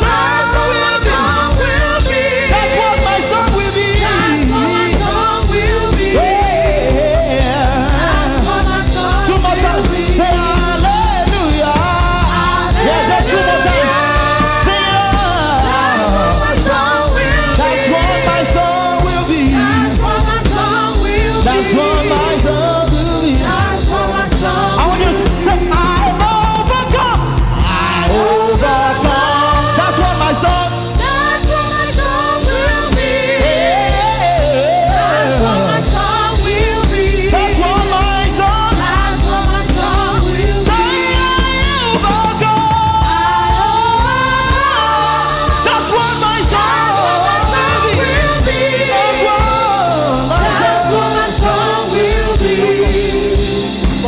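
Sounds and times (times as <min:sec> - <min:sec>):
drums beating: 0:00.0 - 0:54.0
singers over a band: 0:00.0 - 0:54.0.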